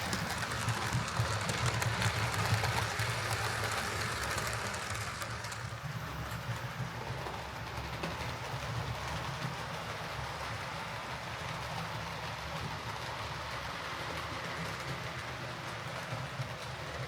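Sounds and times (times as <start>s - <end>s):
model train motor hum: 0.0s - 17.0s
wheels rumbling on rails: 0.0s - 17.0s.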